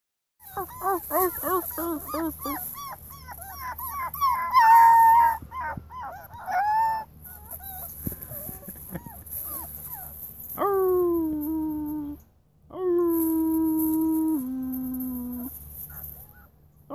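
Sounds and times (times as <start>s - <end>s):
puppies whining: 0.4s - 12.2s, 13.2s - 16.5s.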